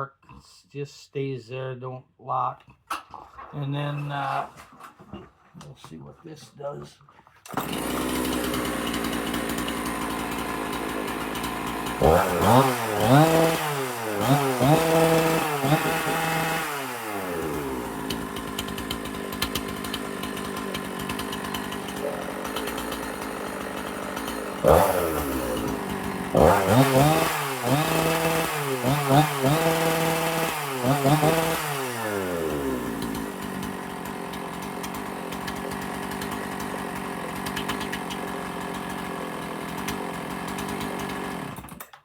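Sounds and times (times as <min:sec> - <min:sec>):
chainsaw idling and revving: 0:07.5 - 0:42.0.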